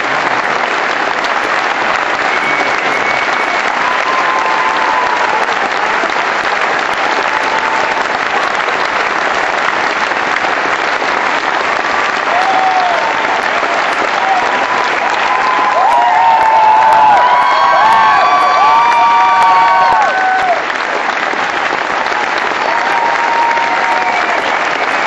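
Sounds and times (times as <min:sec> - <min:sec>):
audience applauding: 0:00.0 - 0:25.0
short cheers: 0:02.1 - 0:08.9, 0:11.7 - 0:25.0.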